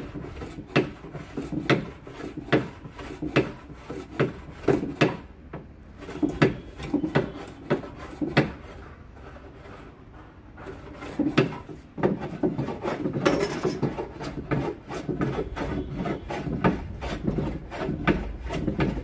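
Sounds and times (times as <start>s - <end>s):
hand plane scraping wood: 0.0s - 19.0s.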